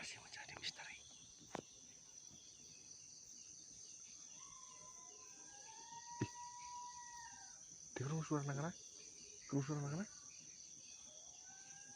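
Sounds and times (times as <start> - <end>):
night insects chirring: 0.0 - 11.9.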